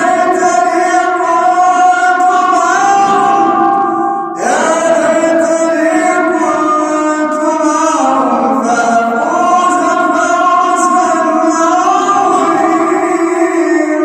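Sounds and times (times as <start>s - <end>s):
melodic recitation by one voice: 0.0s - 14.0s.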